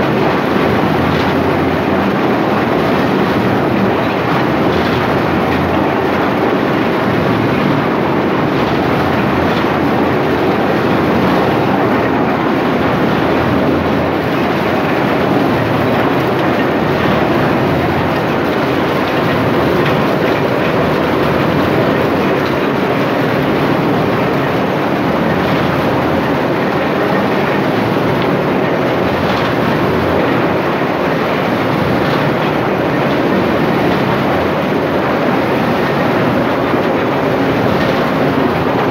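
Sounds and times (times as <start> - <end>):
processing machine running loudly: 0.0 - 38.9.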